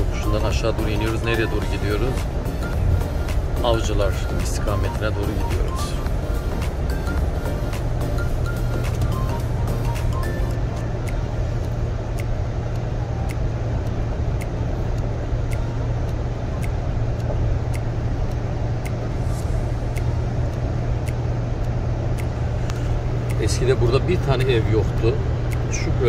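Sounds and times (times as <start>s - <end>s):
car engine and tyres rumbling: 0.0s - 26.0s
faint sharp ticks: 0.0s - 26.0s.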